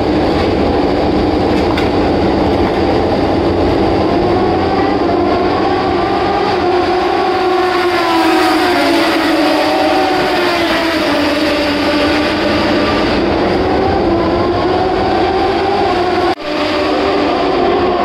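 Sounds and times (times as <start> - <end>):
racing motorcycle engines at high revs: 0.0 - 18.0.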